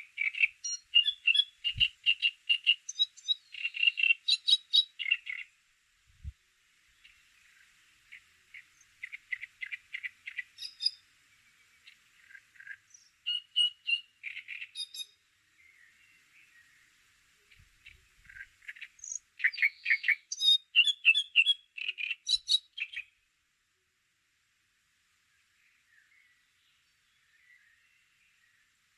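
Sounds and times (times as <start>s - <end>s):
bird chirping: 0.0s - 5.6s, 6.9s - 23.2s, 25.4s - 28.7s.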